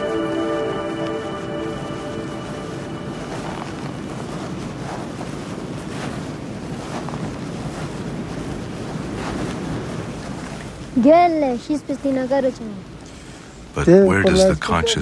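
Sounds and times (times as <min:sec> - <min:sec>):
wind blowing: 0:00.0 - 0:13.8.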